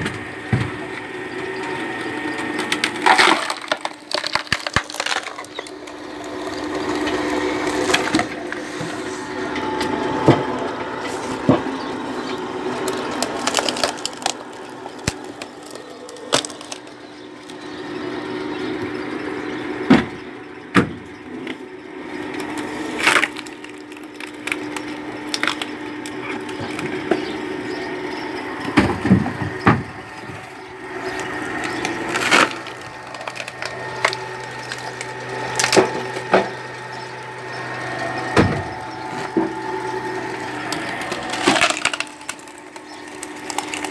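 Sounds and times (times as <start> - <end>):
wood cracking and splintering: 0.0 - 18.1, 20.8 - 43.9
electric motor humming: 0.0 - 43.9.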